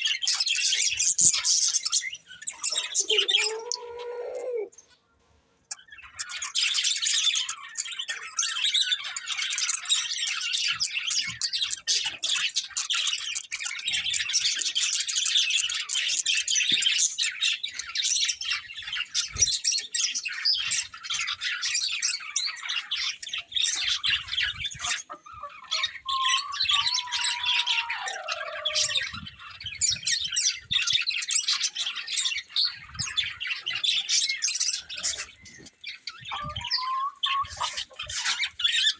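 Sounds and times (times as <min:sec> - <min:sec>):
budgerigars chirping and chattering: 0:00.0 - 0:05.0, 0:05.6 - 0:38.9.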